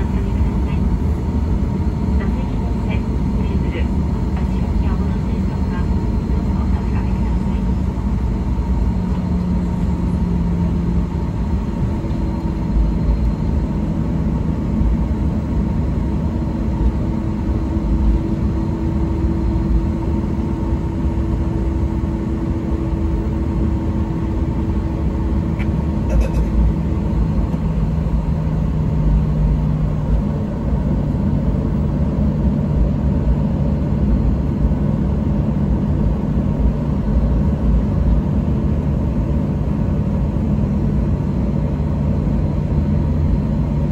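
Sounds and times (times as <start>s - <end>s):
airplane cabin engine rumble: 0.0s - 43.9s
low humming tones: 0.0s - 43.9s.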